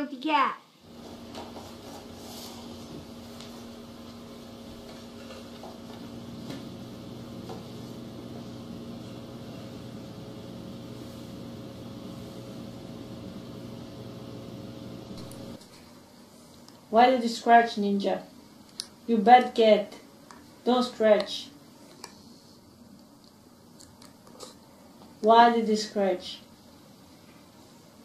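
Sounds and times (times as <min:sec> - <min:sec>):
steady low hum: 0:00.7 - 0:28.0.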